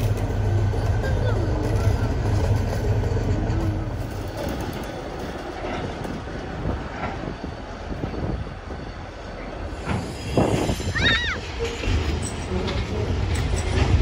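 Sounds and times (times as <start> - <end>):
diesel locomotive engine rumble: 0.0 - 14.0
wagons rolling on rails: 0.0 - 14.0.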